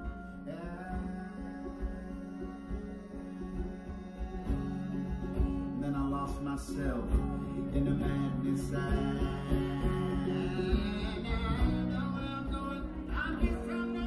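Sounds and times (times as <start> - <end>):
acoustic guitar strummed and plucked: 0.0 - 14.0.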